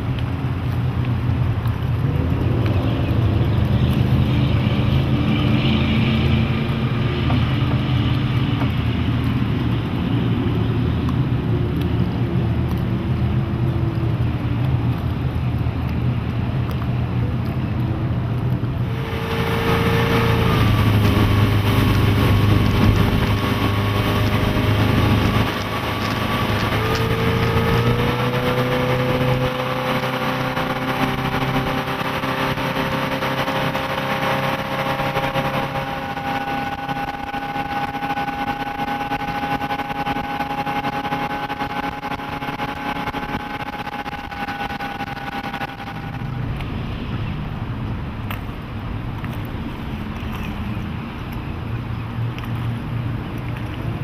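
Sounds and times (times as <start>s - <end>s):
boat engine running: 0.0s - 54.0s
water rushing: 0.0s - 54.0s.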